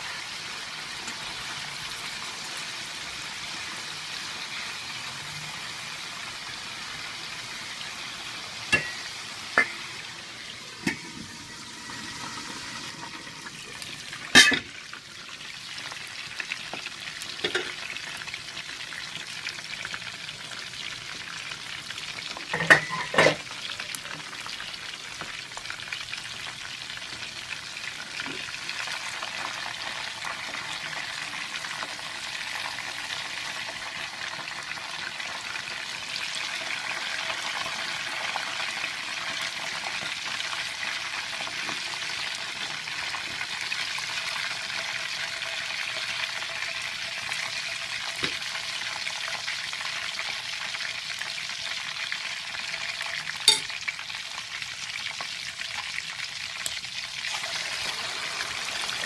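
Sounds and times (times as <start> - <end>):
chicken sizzling in hot oil: 0.0 - 59.0.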